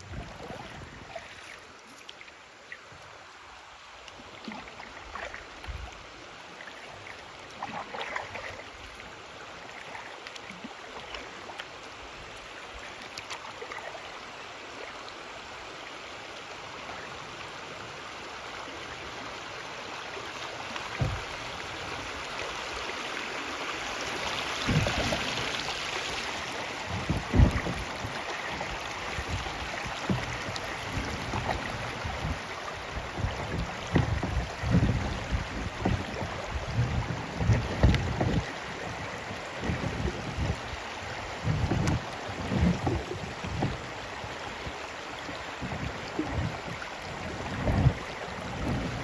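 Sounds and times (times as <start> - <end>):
river water running: 0.0 - 49.0.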